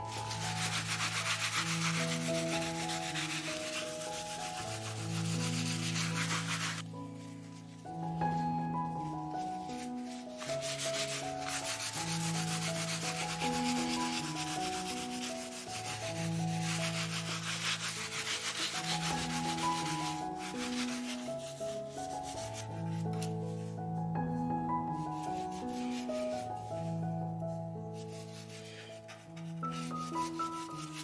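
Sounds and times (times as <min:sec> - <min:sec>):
cloth rubbing on wood: 0:00.0 - 0:23.7, 0:28.0 - 0:31.0
slow background music: 0:00.0 - 0:31.0.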